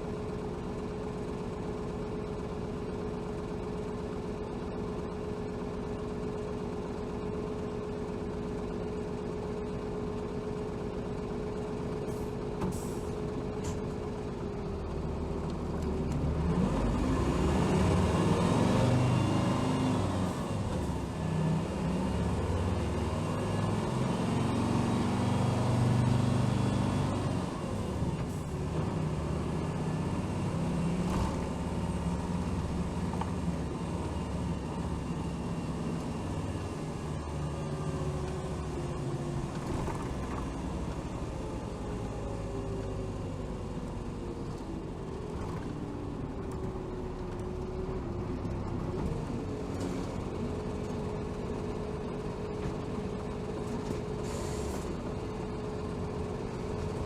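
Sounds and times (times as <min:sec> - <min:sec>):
bus engine idling and accelerating: 0:00.0 - 0:57.0.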